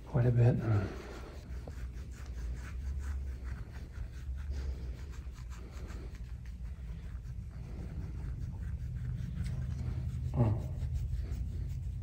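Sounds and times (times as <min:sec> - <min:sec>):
tool scraping oiled skin: 0:00.0 - 0:12.0.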